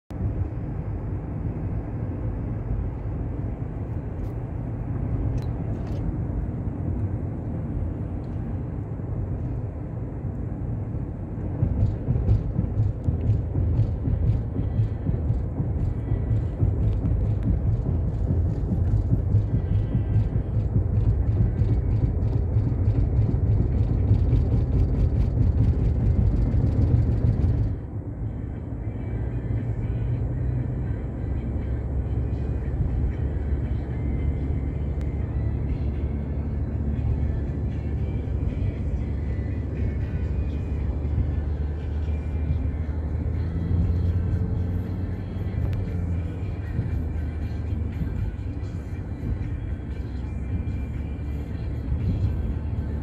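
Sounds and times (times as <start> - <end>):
car interior road rumble: 0.1 - 53.0.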